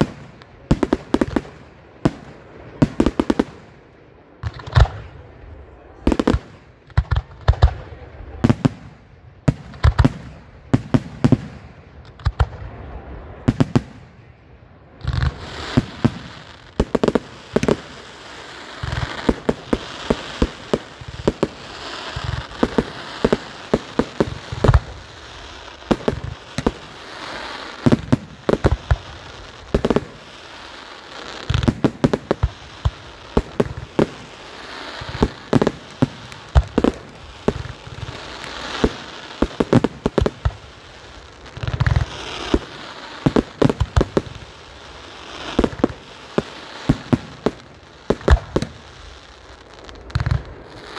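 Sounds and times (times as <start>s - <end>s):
crackling hiss of fireworks: 0.0s - 50.9s.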